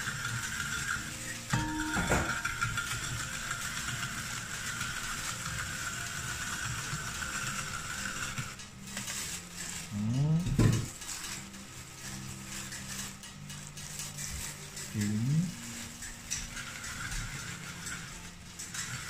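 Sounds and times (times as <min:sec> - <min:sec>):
food processor gears clicking and whirring: 0:00.0 - 0:19.0.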